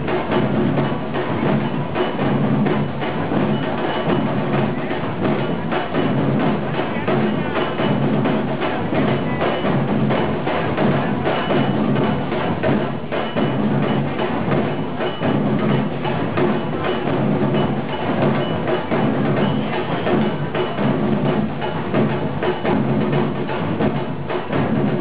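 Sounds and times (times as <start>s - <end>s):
drums: 0.0s - 25.0s
percussion music: 0.0s - 25.0s.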